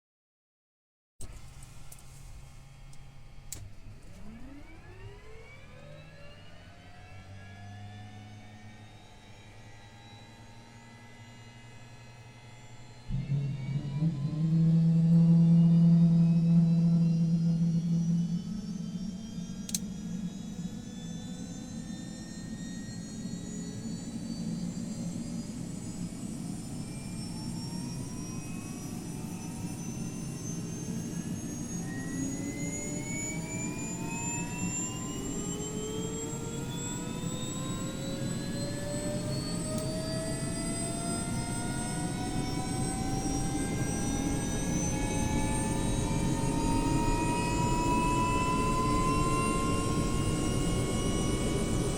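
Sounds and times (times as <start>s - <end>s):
helicopter turbine spooling up: 3.7s - 51.9s.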